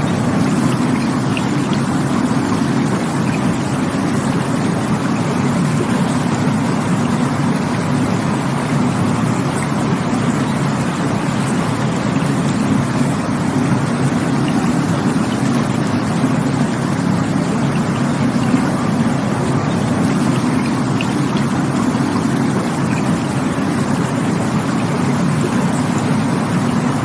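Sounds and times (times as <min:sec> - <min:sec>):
deep rushing water: 0:00.0 - 0:27.0.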